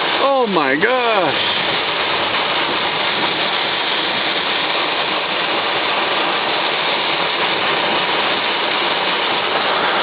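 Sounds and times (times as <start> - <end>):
rain beating on a vehicle: 0.0 - 10.0.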